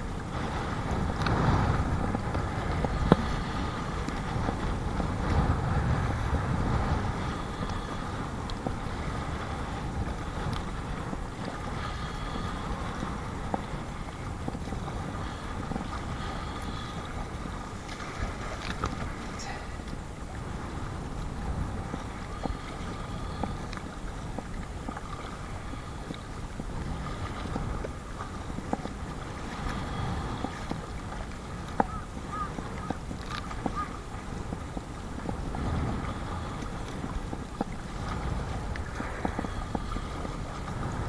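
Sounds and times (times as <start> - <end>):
strong wind buffeting microphone: 0.0 - 41.0
water splashing against kayak: 0.0 - 41.0.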